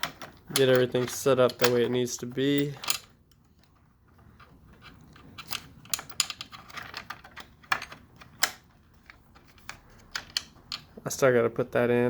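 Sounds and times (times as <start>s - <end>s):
small parts clicking and tapping: 0.0s - 11.1s.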